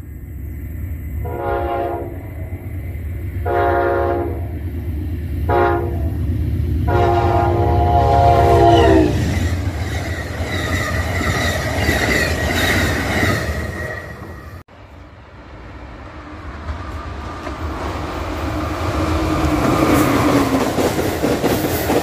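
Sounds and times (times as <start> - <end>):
passenger train cars rolling: 0.0 - 22.0
train passing at speed: 0.0 - 22.0.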